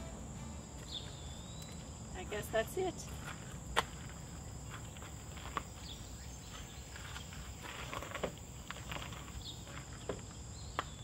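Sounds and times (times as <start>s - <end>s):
insects droning: 0.0s - 11.0s
footsteps crunching on gravel: 0.4s - 11.0s.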